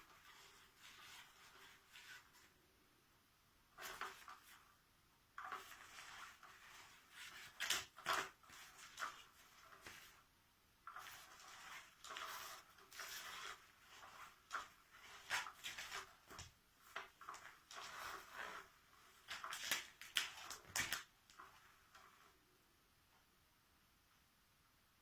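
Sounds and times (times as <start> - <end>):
rustling and scratching on fabric: 0.0 - 2.6, 3.8 - 4.8, 5.4 - 22.4.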